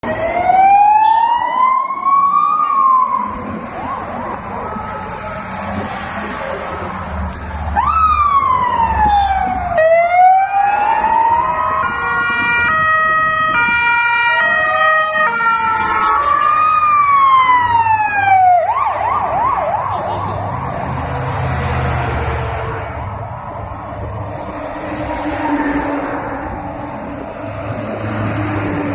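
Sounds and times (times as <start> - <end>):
fire engine sirens: 0.0 - 28.9.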